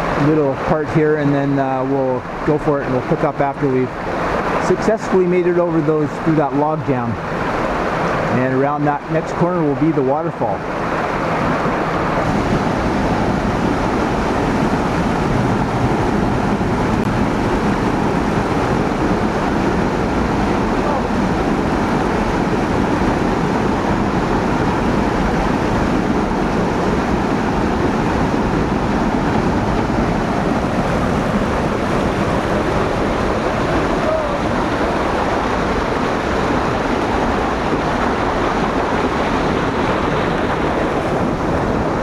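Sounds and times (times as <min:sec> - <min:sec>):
creek water rushing: 0:00.0 - 0:42.0.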